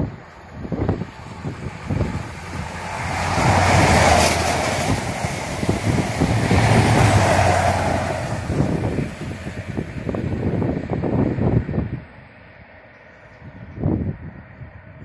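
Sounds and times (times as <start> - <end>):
wind buffeting microphone: 0.0 - 12.4, 13.3 - 15.0
diesel engine drone: 0.0 - 15.0
wheel-on-rail rumble: 0.0 - 15.0.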